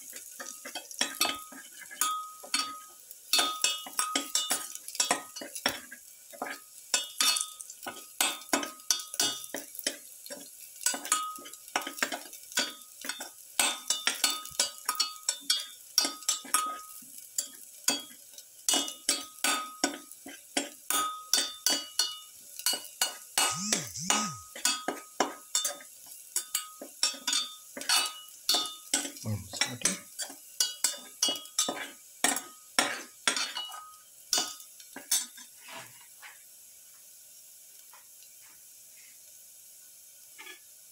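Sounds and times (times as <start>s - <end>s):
garlic sizzling in oil: 0.0s - 23.5s, 24.5s - 40.9s.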